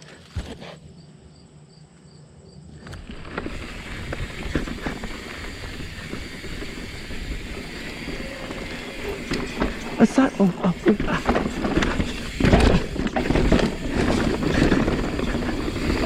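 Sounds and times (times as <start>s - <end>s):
tyres on dirt: 2.8s - 16.0s
bike frame rattling: 2.9s - 16.0s.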